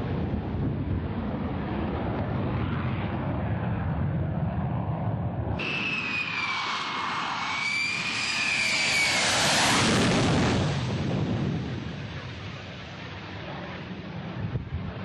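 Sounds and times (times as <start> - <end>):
jet aircraft whining and rushing: 0.0 - 15.0.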